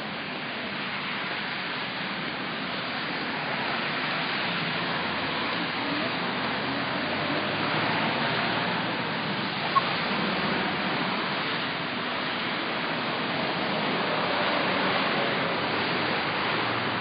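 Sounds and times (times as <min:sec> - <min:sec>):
city street rushing noise: 0:00.0 - 0:17.0.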